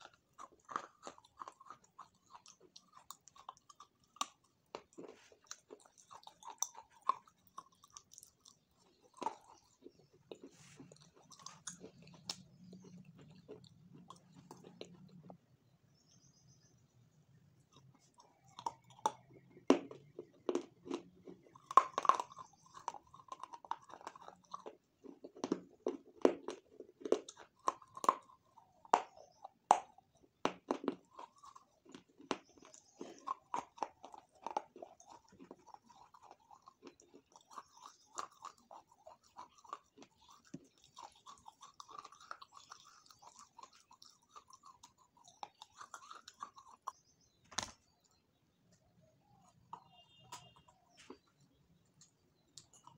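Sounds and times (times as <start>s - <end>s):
crunchy chewing: 0.0s - 15.8s, 17.2s - 52.9s.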